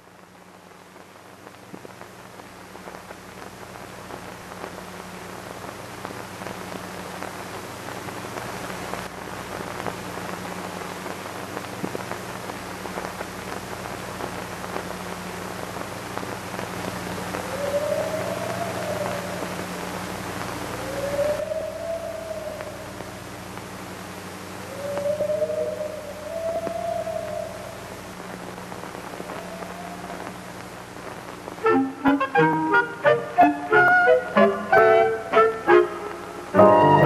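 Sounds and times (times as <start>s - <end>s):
low steady hum: 0.0s - 37.0s
rain-like hiss with ticks: 0.0s - 37.0s.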